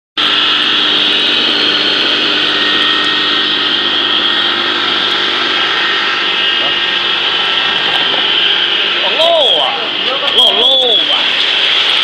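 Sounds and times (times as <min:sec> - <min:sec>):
grinding machine whining: 0:00.2 - 0:12.0.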